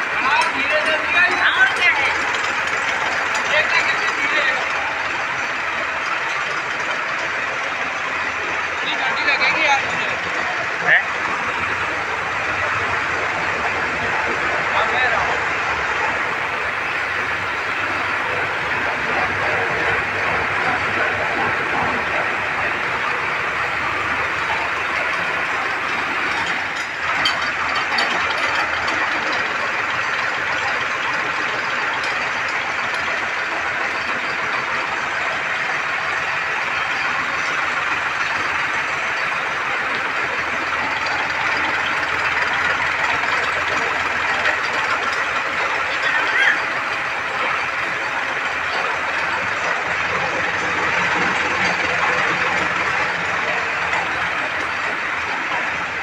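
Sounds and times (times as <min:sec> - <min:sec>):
feed mixer rattling: 0:00.0 - 0:56.0
tractor engine running: 0:00.0 - 0:56.0.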